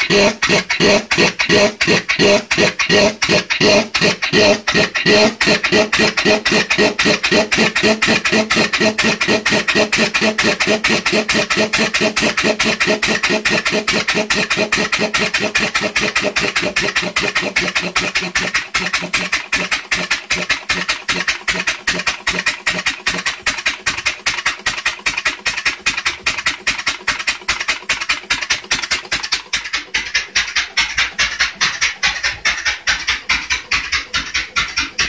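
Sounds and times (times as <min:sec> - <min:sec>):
engine exhaust chuffing: 0:00.0 - 0:35.0.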